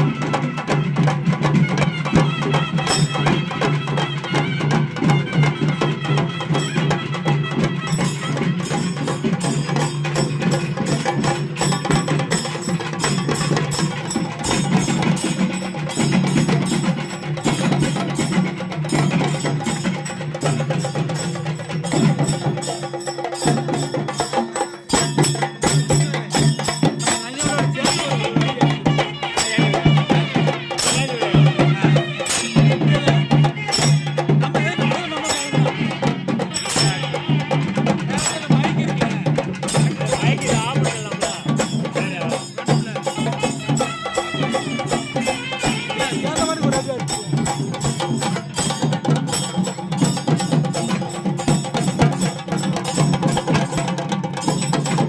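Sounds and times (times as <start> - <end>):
drums beaten with sticks: 0.0 - 55.0.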